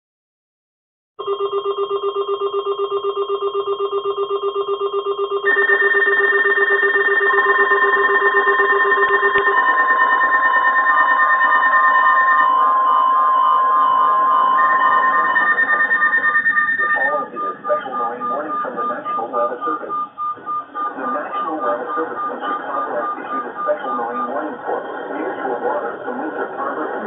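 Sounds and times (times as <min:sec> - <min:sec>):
fast-pulsing beeping alarm: 0:01.2 - 0:27.0
warbling alarm: 0:01.2 - 0:27.0.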